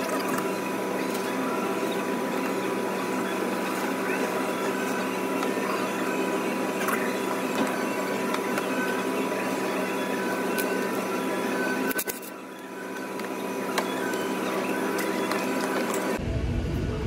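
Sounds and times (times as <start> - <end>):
mechanical whirring hum: 0.0 - 17.0.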